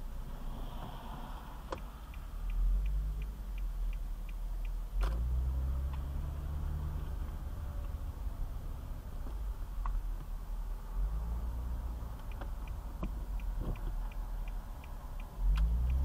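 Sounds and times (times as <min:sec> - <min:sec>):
engine and road rumble: 0:00.0 - 0:16.0
turn signal ticking: 0:00.0 - 0:16.0.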